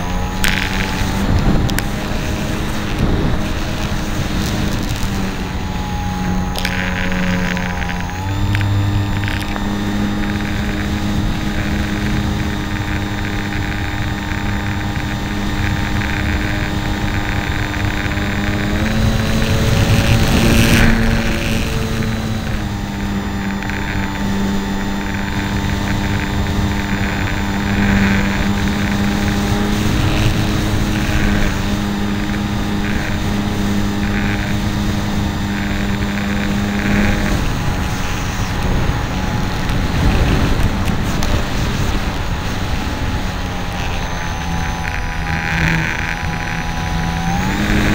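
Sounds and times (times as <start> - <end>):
electric motor and propeller whining: 0.0 - 47.9.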